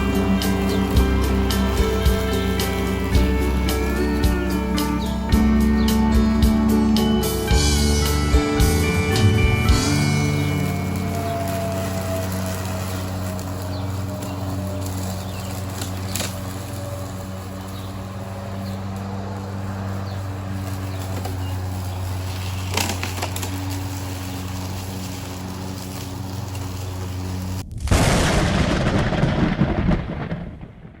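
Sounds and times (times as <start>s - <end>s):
lawn mower humming: 0.0s - 27.6s
loud rough noise: 0.0s - 29.9s.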